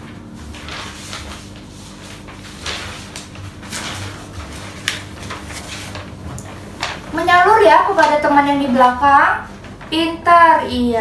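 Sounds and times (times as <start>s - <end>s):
paper rustling: 0.0s - 8.9s.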